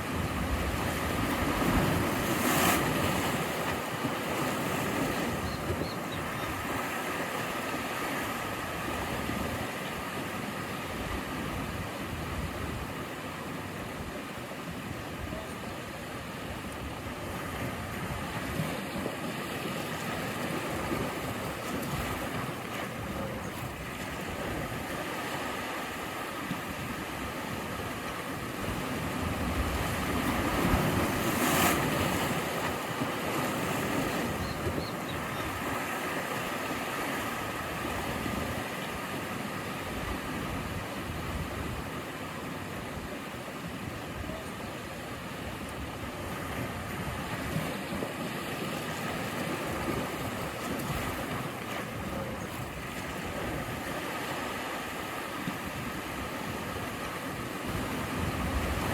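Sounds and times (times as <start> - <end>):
sea waves washing on shore: 0.0 - 58.9.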